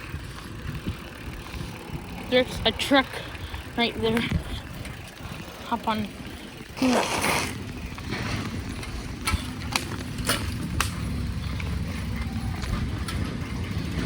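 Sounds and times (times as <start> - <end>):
bicycle tyres rumbling on dirt: 0.0 - 14.0.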